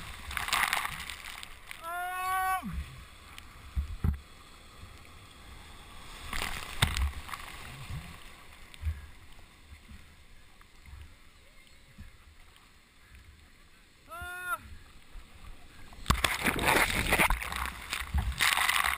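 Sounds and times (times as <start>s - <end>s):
breaking surf rushing water: 0.0s - 18.9s.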